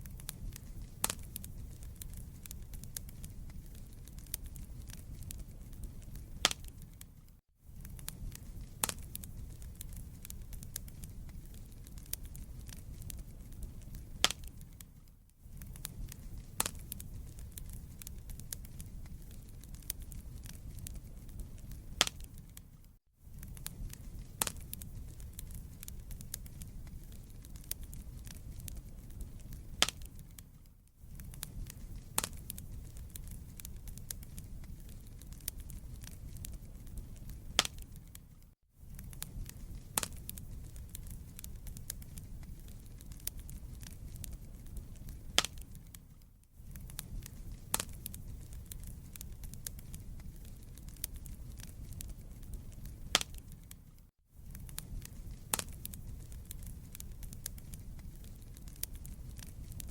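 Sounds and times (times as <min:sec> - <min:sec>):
burning logs crackling: 0:00.0 - 0:59.9
low rumble of flames: 0:00.0 - 0:59.9.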